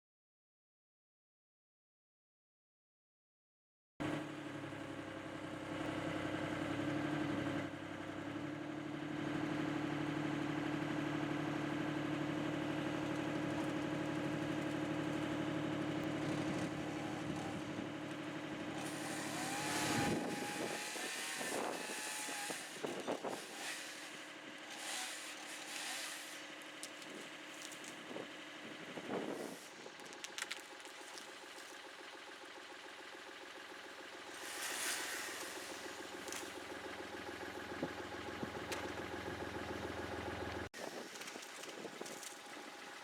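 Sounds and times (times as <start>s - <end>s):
engine running: 4.0s - 43.0s.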